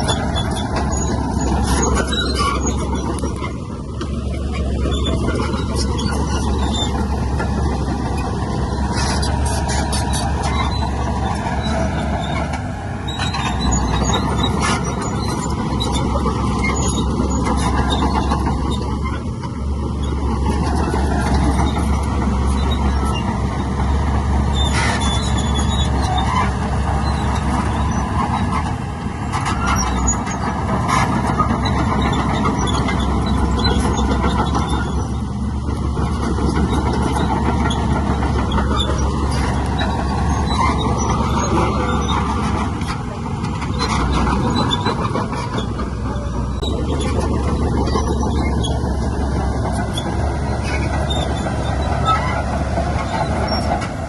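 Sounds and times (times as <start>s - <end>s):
heavy diesel machinery rumbling: 0.0s - 54.0s
knocks and squeaks: 0.0s - 54.0s.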